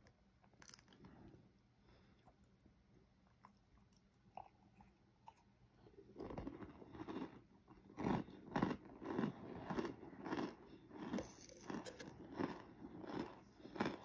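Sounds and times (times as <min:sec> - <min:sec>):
chewing soft crunches: 0:00.4 - 0:14.0.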